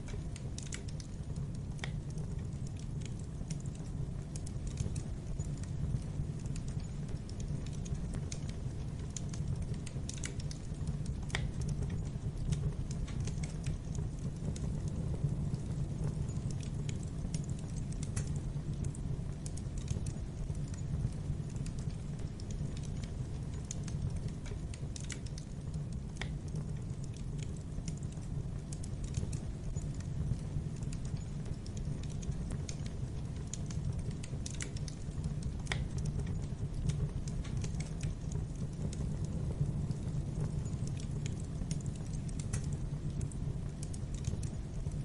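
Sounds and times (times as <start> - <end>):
fire flames rumbling: 0.0 - 45.0
wood fire crackles and pops: 0.0 - 45.0.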